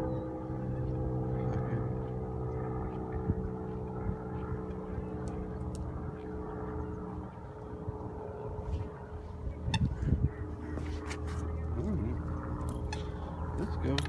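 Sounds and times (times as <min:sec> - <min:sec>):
propeller airplane engine humming: 0:00.0 - 0:14.0.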